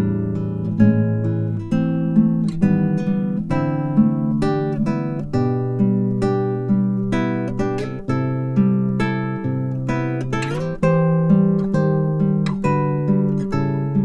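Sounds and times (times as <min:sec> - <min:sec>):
acoustic guitar plucked chords: 0:00.0 - 0:14.0.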